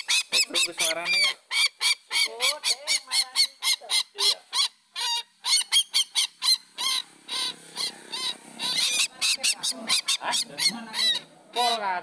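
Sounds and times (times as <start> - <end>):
rail bird calls: 0.0 - 12.0.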